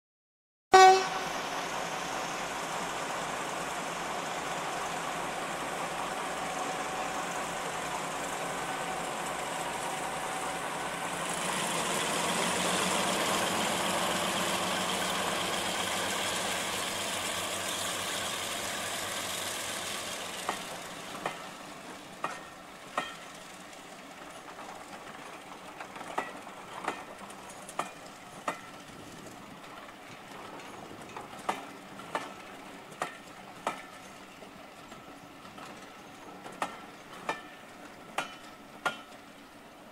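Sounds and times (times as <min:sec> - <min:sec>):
diesel locomotive passing: 0:00.7 - 0:39.9
wheels clicking over rail joints: 0:03.6 - 0:39.8.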